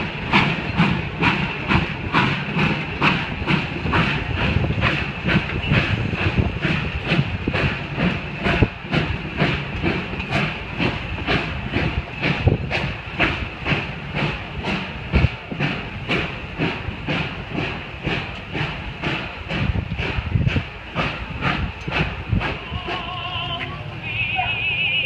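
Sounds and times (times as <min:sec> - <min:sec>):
train wheels clicking over rail joints: 0:00.0 - 0:24.3
steady steam hiss: 0:00.0 - 0:24.9.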